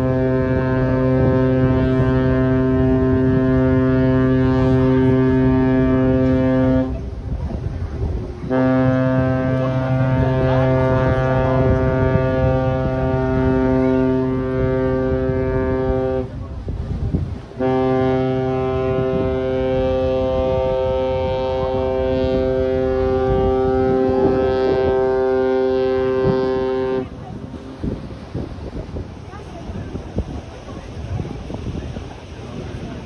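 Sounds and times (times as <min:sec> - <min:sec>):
ship's horn blasts: 0:00.0 - 0:33.0.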